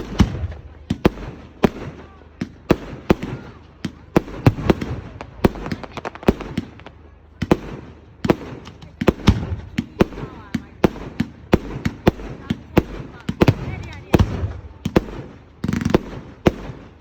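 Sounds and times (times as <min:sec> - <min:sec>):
fireworks bursting bangs: 0:00.0 - 0:17.0.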